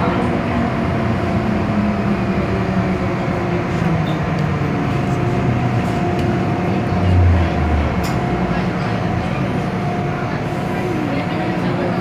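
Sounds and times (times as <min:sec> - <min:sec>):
train motor hum: 0:00.0 - 0:12.0
train rumbling on track: 0:00.0 - 0:12.0.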